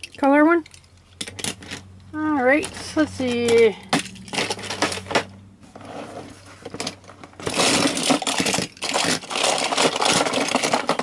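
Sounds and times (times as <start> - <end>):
metal toy cars clattering: 0.0 - 11.0.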